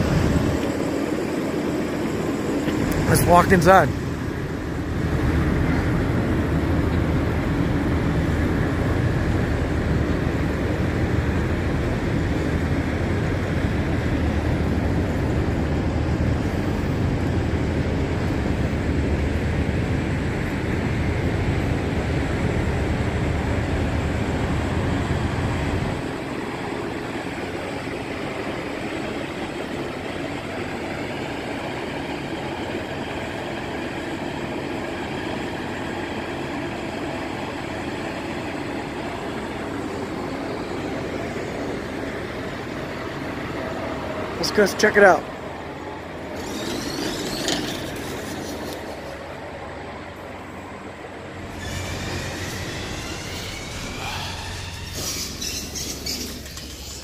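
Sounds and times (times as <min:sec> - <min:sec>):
vehicle engines rumbling: 0:00.0 - 0:57.0.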